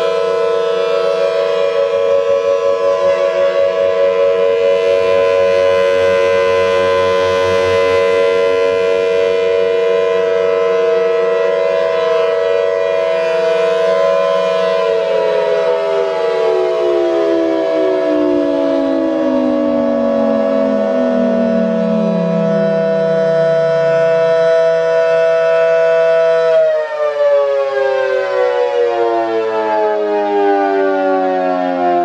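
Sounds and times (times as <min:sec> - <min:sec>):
siren winding down: 0:00.0 - 0:32.0
warning sirens sounding: 0:00.0 - 0:32.0.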